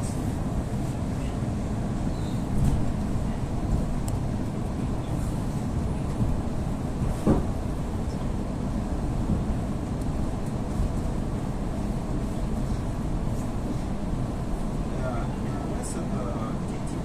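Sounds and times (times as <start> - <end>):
electric train carriage rumble: 0.0 - 17.0.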